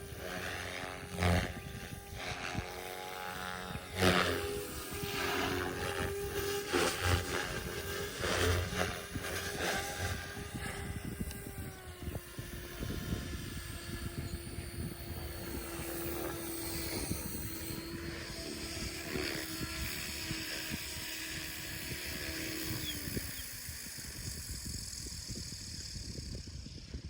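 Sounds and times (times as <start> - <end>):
rc helicopter motor and rotor whine: 0.0 - 27.0.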